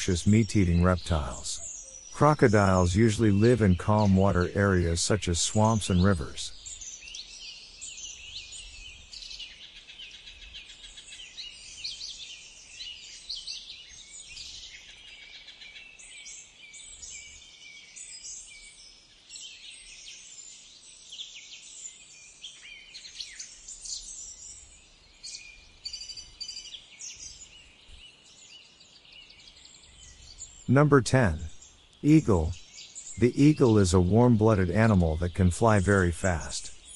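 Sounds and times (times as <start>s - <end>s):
birds chirping and calling: 0.0s - 18.8s, 22.4s - 36.9s
faint outdoor background noise: 0.0s - 36.9s.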